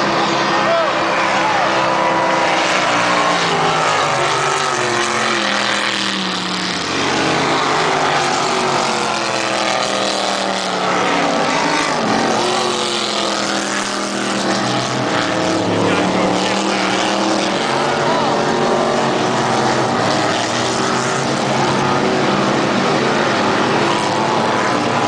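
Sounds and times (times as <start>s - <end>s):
racing powerboat engines: 0.0s - 25.0s.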